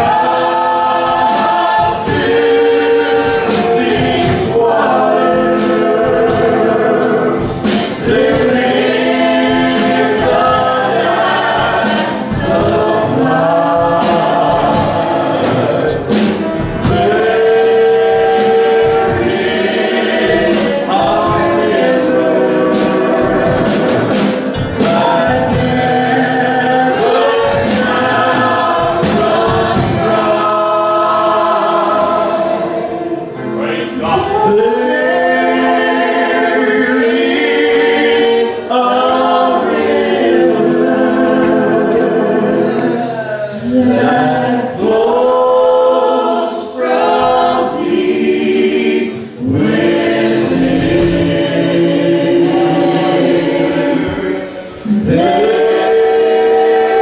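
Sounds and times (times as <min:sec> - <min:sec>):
gospel group singing in harmony: 0:00.0 - 0:57.0.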